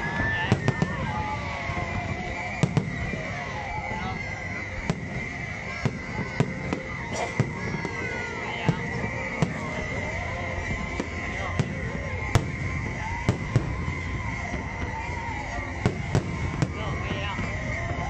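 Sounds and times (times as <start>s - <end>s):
crowd voices: 0.0s - 18.0s
fireworks bursting: 0.0s - 18.0s.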